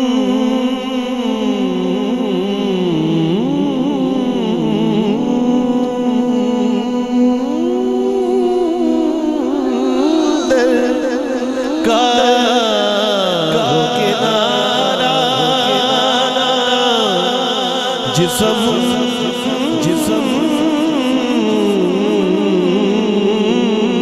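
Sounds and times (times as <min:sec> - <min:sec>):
person singing ornamented melody: 0:00.0 - 0:24.0.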